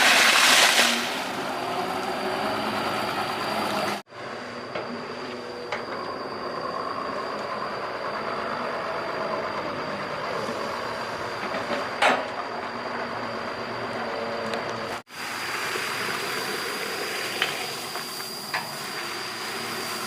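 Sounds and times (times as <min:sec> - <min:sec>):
excavator diesel engine running: 0:01.0 - 0:20.0.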